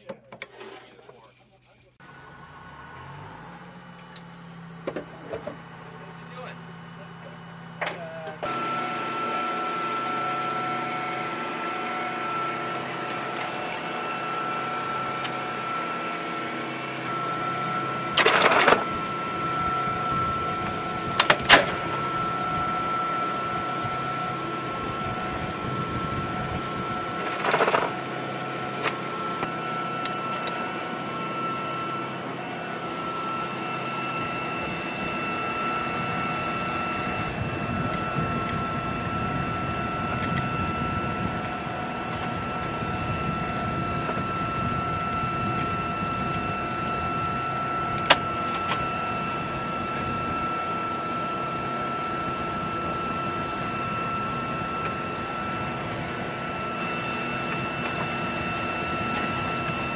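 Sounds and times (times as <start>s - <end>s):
machinery drone with high whine: 0.0s - 59.9s.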